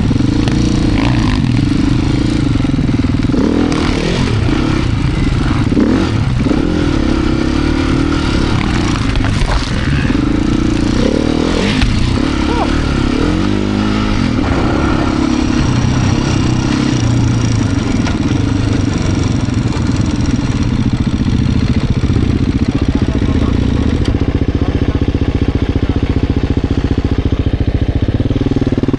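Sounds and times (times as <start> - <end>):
dirt bike engine idling: 0.0 - 28.9.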